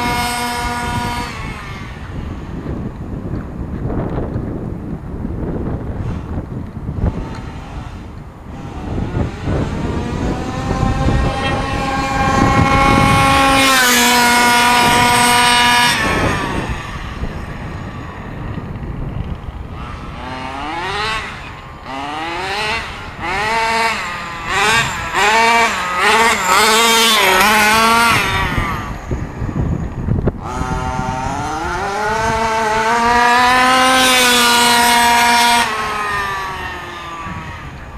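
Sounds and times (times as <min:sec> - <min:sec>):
rc buggy engine revving: 0:00.0 - 0:37.9.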